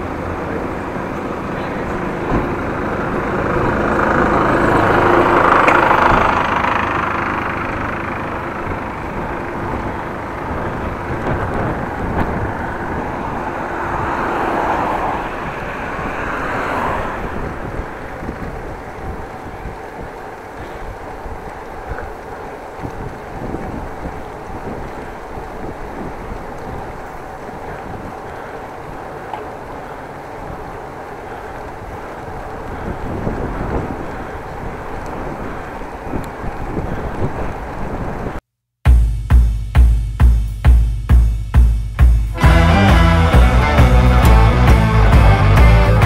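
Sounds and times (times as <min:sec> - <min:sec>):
vehicles passing by: 0:00.0 - 0:38.4, 0:40.7 - 0:46.0.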